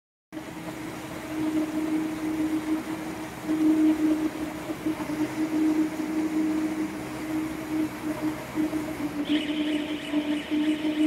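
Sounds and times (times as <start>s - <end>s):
baling machine running: 0.4s - 11.0s.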